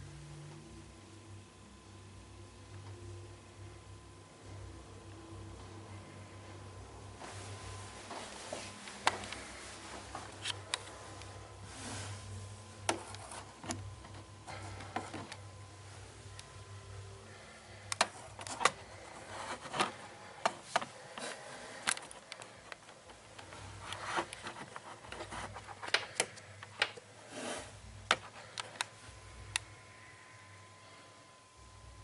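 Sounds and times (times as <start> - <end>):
faint high hum: 0.0 - 32.0.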